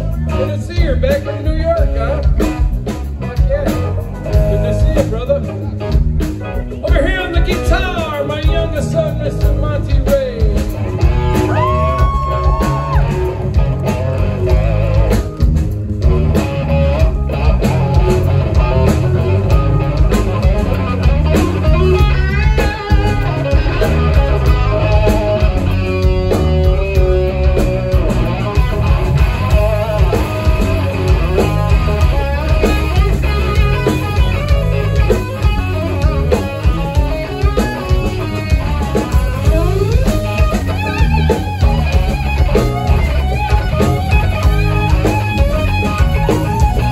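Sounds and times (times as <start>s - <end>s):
bass guitar: 0.0s - 46.9s
drums with steady beat: 0.0s - 46.9s
electric guitar lead: 0.0s - 46.9s.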